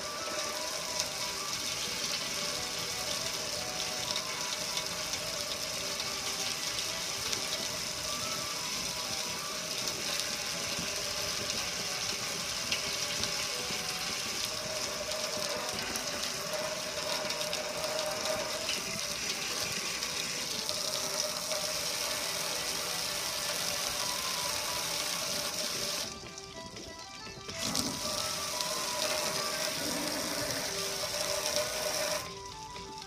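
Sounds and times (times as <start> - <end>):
hose spraying water on metal grill: 0.0 - 33.0.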